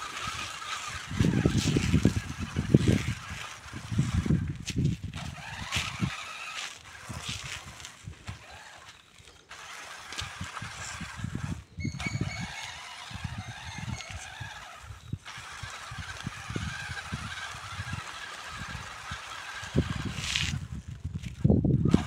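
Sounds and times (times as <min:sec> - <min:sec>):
rc car motor hissing: 0:00.0 - 0:22.0
tyres on gravel: 0:00.0 - 0:22.0.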